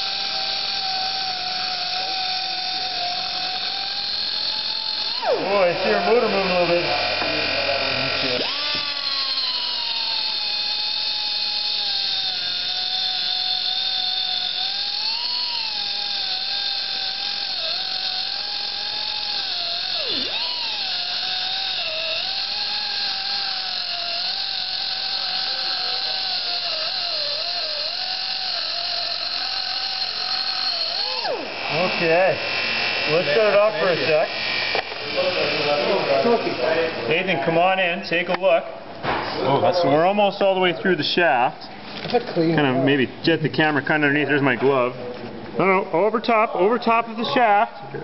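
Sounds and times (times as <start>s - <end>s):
cutoff wheel grinding steel: 0.0s - 38.6s.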